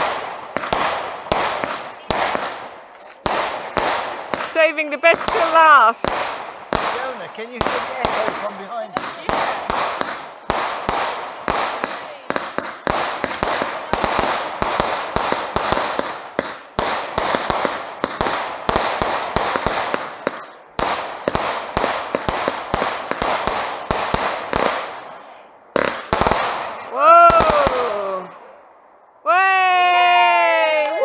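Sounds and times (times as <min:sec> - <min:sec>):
firework bangs with hiss: 0:00.0 - 0:28.3.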